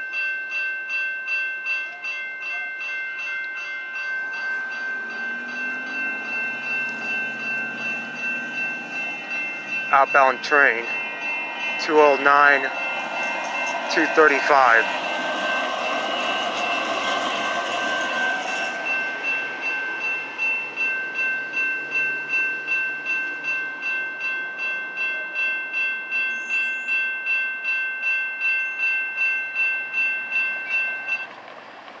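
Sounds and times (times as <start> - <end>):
crossing warning bell ringing: 0.0 - 31.4
light rail train passing: 0.0 - 32.0.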